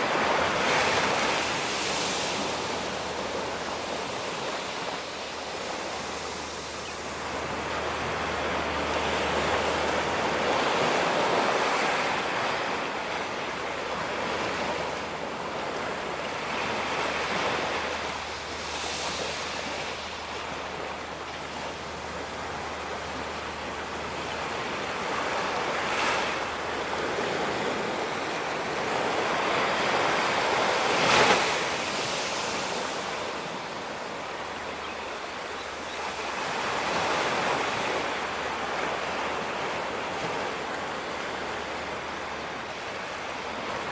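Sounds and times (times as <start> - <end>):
ocean waves breaking: 0.0 - 43.9.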